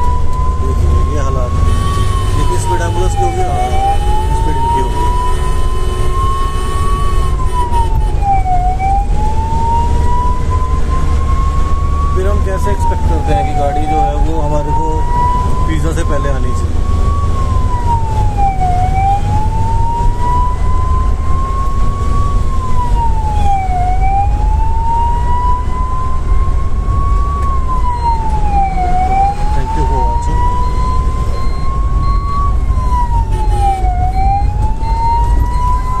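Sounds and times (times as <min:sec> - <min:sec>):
ambulance siren wailing: 0:00.0 - 0:36.0
engine and road rumble: 0:00.0 - 0:36.0.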